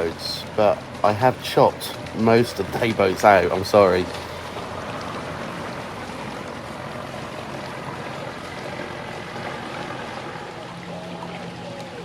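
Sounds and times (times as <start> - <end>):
boat engines running: 0.0 - 12.0
water noise: 0.0 - 12.0.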